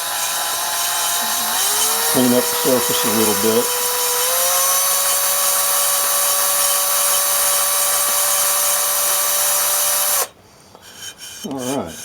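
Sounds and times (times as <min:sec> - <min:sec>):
electric drill whining: 0:00.0 - 0:10.3.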